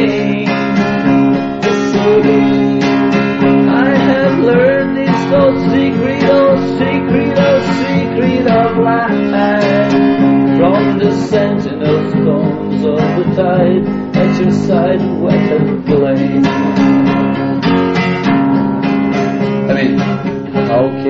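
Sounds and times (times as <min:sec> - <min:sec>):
pitch-bending lead melody: 0:00.0 - 0:21.0
rock song: 0:00.0 - 0:21.0
strummed acoustic guitar: 0:00.0 - 0:21.0.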